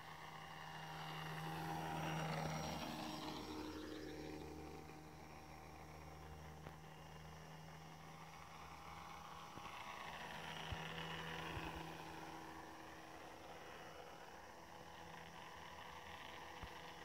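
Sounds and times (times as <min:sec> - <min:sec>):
model plane motor whine passing: 0:00.0 - 0:17.0.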